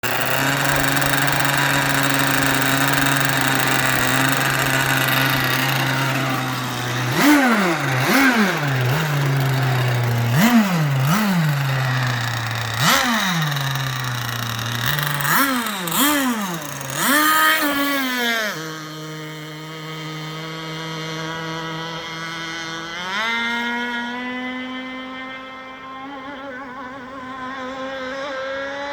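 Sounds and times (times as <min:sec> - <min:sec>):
small boat engine revving: 0:00.0 - 0:28.9.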